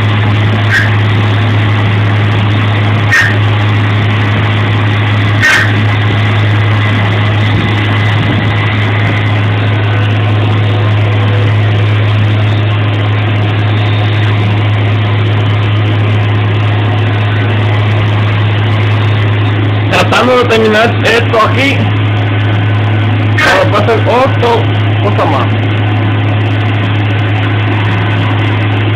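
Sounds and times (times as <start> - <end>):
milling machine running: 0.0 - 28.9.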